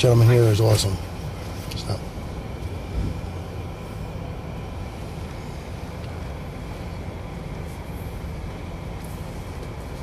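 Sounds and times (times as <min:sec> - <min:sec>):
car cabin idle rumble: 0:00.0 - 0:10.0.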